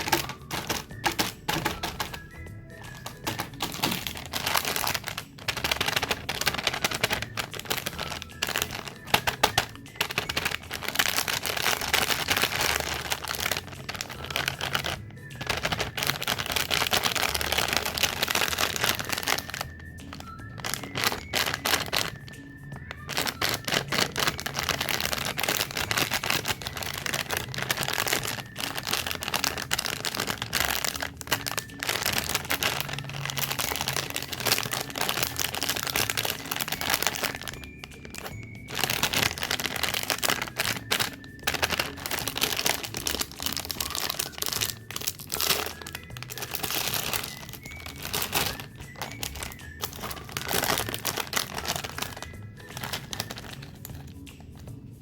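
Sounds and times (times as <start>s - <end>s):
plastic wrappers crinkling and tearing: 0.0s - 54.8s.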